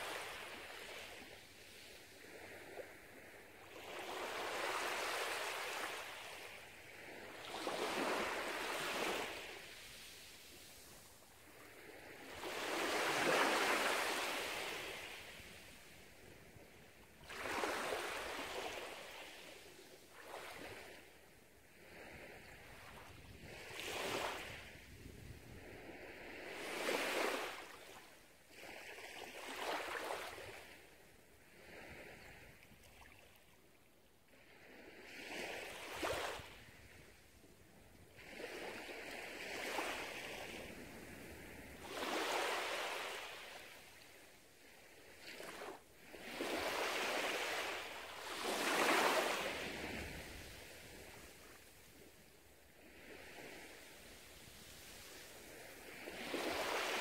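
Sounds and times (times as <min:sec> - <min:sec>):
small waves breaking on sand: 0:00.0 - 0:57.0.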